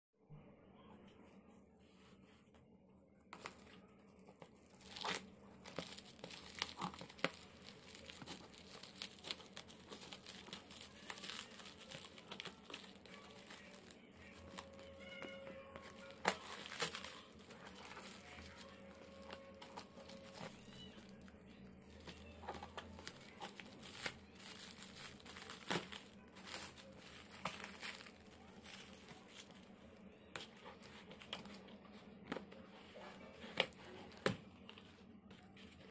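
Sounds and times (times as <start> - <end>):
plastic wrap crinkling and tearing: 3.4 - 32.4.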